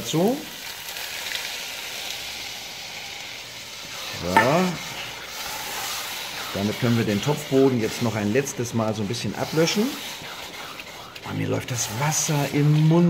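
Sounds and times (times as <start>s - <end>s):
meat and onions sizzling in pot: 0.0s - 13.0s.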